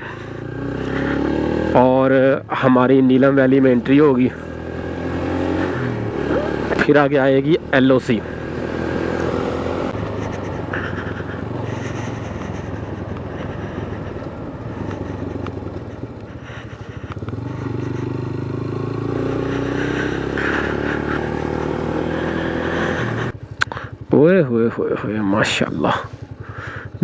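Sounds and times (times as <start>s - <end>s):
motorcycle engine running: 0.0s - 27.0s
road and wind noise: 0.0s - 27.0s.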